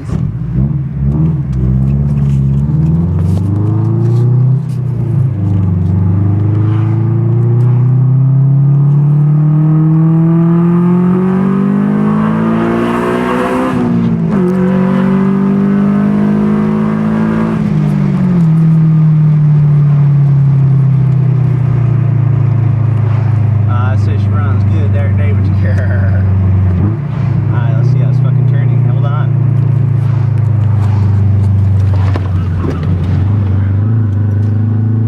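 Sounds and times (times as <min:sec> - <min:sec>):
car engine accelerating through gears: 0:00.0 - 0:35.0.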